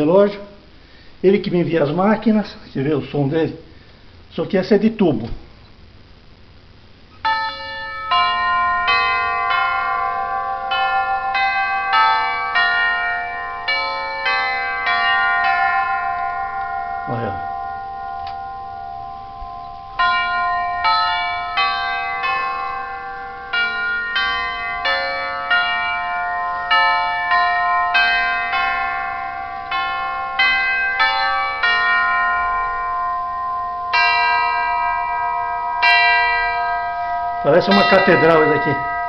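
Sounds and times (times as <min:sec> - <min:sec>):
chime clock melody: 0:07.2 - 0:39.0.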